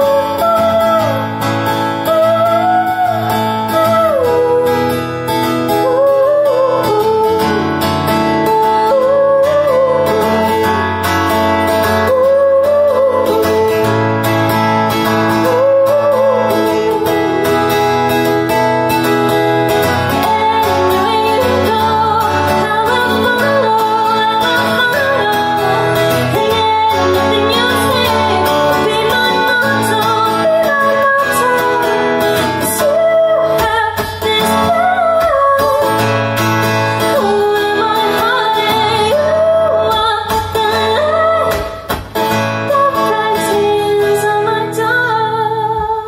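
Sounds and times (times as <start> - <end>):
acoustic guitar chords: 0.0 - 46.0
woman singing pop: 0.0 - 46.0.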